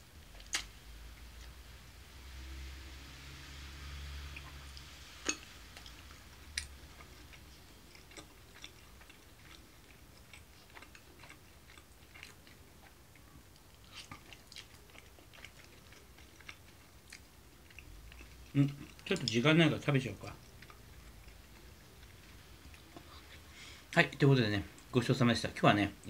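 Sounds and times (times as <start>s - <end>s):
person chewing food: 0.2s - 1.6s, 3.8s - 24.0s.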